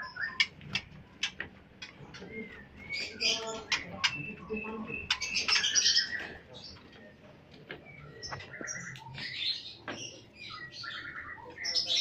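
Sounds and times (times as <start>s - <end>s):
lovebirds chirping and chattering: 0.0s - 12.0s.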